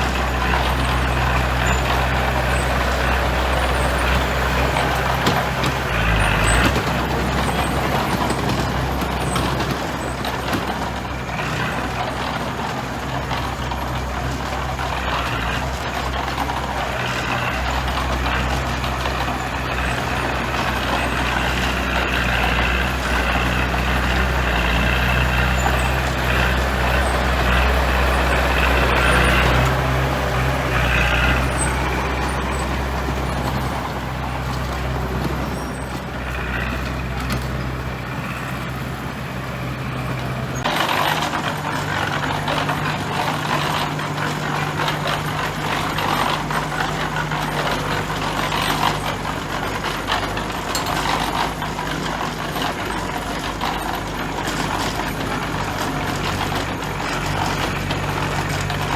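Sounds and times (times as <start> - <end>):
diesel construction machinery rumbling: 0.0 - 58.9.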